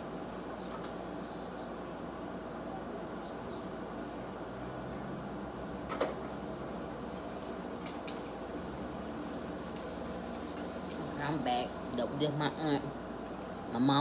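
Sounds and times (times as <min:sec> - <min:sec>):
indoor room hum: 0:00.0 - 0:14.0.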